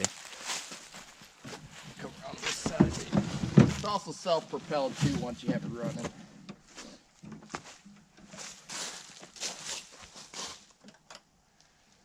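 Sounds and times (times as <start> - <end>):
footsteps in dry leaves: 0.0 - 6.1, 6.7 - 10.8.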